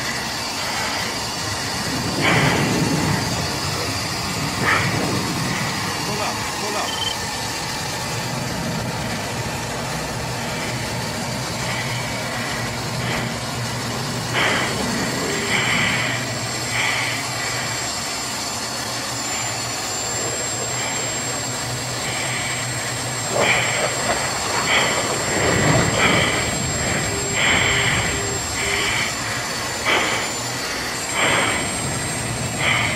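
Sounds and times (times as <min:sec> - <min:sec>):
jet engine and airflow noise: 0:00.0 - 0:32.9
low hum: 0:00.0 - 0:32.9.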